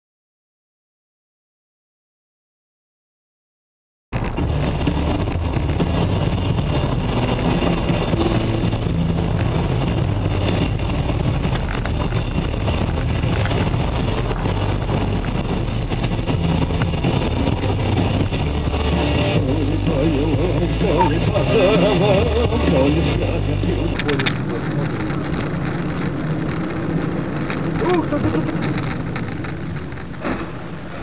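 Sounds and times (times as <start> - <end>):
car engine and road noise: 4.1 - 31.0.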